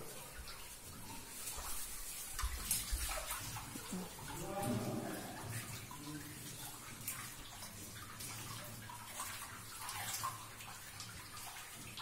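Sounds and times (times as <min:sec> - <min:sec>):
water trickling over rock: 0:00.0 - 0:12.0.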